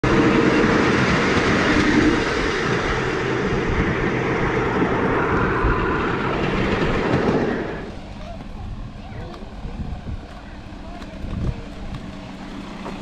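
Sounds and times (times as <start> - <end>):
miniature train wheels on rails: 0.0 - 13.0.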